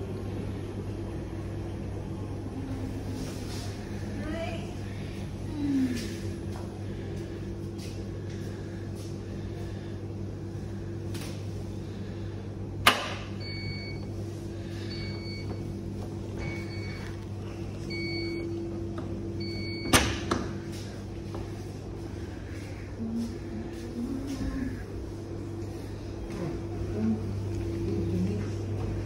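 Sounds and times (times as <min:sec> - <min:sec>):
washing machine hum: 0:00.0 - 0:29.0.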